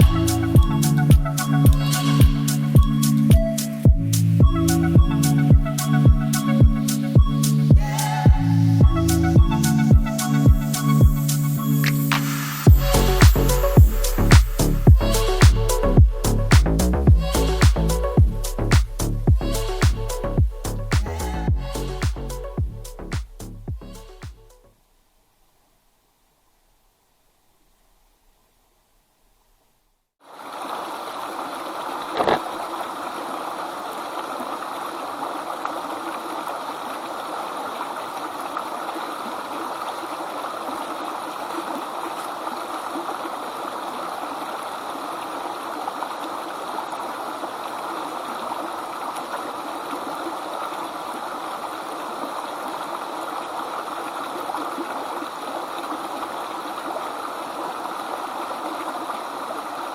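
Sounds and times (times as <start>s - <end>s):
flowing water rushing: 0.0s - 24.2s, 30.2s - 59.9s.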